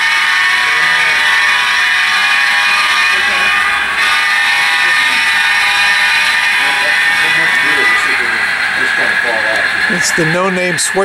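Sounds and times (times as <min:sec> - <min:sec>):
model train running hum: 0:00.0 - 0:11.0.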